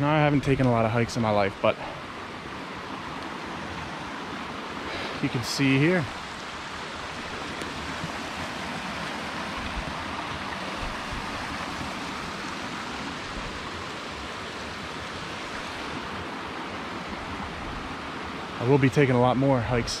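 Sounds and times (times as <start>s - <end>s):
stream water over rocks: 0.0s - 20.0s.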